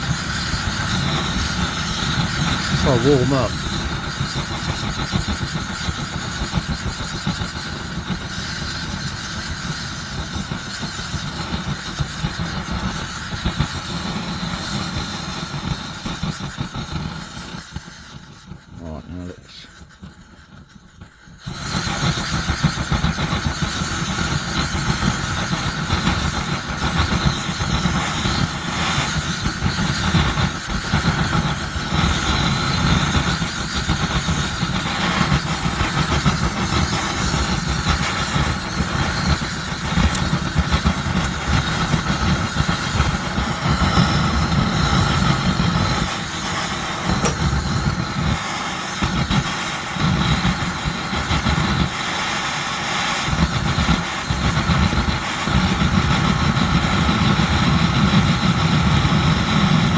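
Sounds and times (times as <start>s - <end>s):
stove burner rushing: 0.0s - 59.9s.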